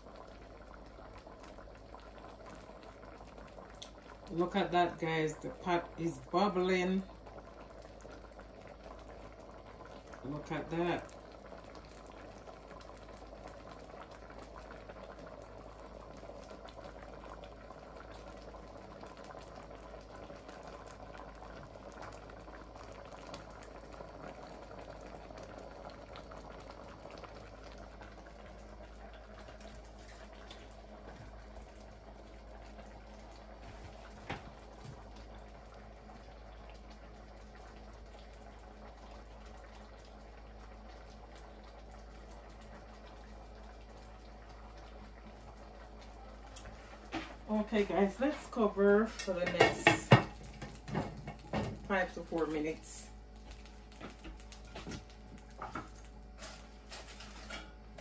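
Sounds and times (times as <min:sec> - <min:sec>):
stew bubbling in a pot: 0:00.0 - 0:58.0.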